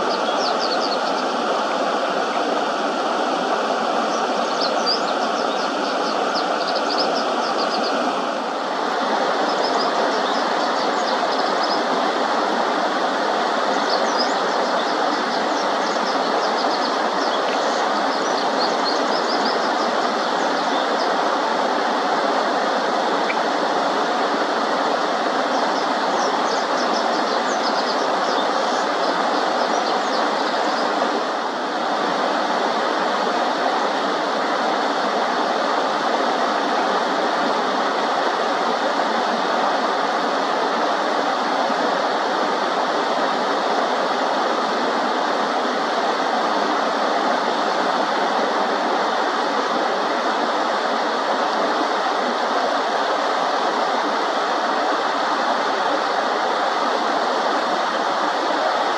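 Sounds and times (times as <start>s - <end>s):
water rushing over stream: 0.0s - 58.9s.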